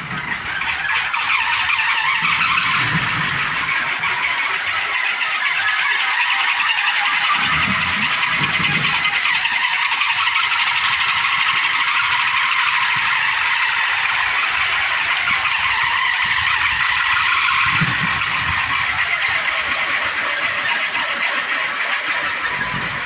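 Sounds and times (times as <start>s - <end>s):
wooden windmill whirring: 0.0s - 23.0s.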